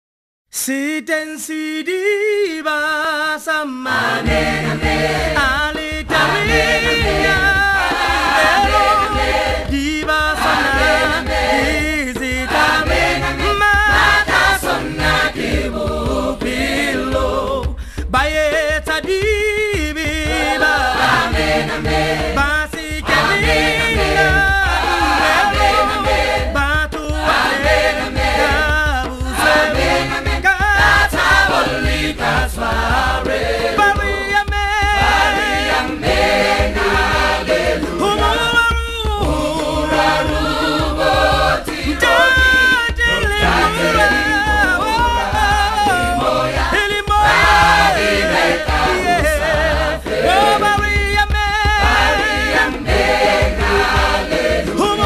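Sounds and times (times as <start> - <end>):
choir singing unaccompanied: 3.8 - 17.7, 20.2 - 51.0, 51.6 - 55.0.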